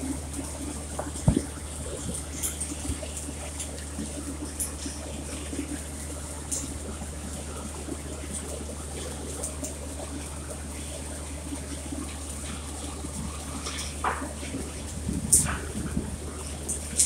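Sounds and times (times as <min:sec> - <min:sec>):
low steady hum: 0:00.0 - 0:17.0
welding arc crackling and sizzling: 0:00.0 - 0:17.0.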